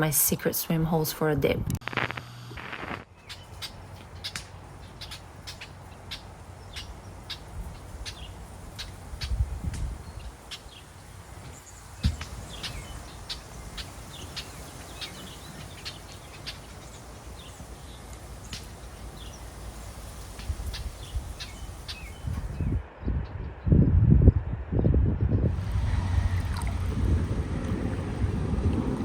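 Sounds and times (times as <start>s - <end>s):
wind rumble on microphone: 4.4s - 29.0s.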